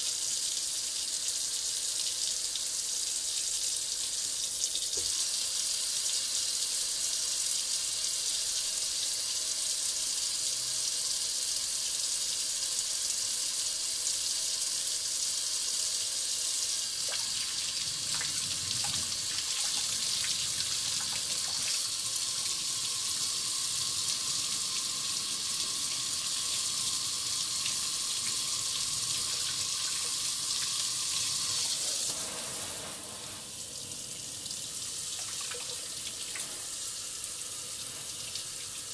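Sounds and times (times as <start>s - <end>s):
faucet running into steel sink: 0.0s - 38.9s.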